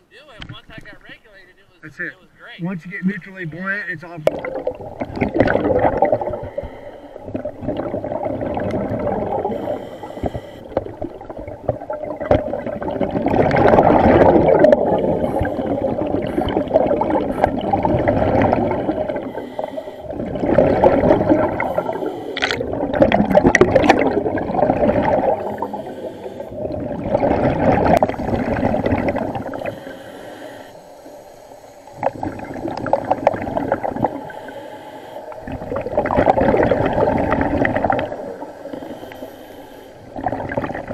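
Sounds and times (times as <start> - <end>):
diver exhaling bubbles through regulator: 4.2 - 30.7, 31.9 - 34.6, 35.2 - 40.9.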